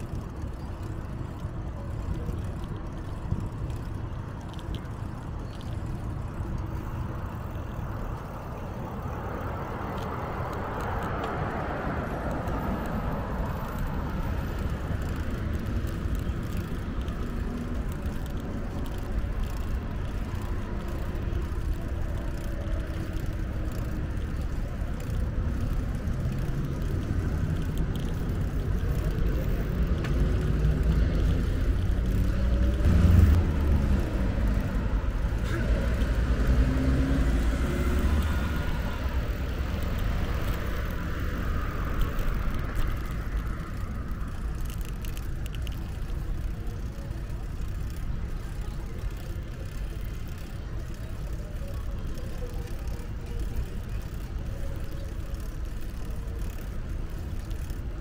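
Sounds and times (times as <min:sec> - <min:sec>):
road traffic rumble: 0:00.0 - 0:58.0
vehicle passing: 0:06.4 - 0:58.0.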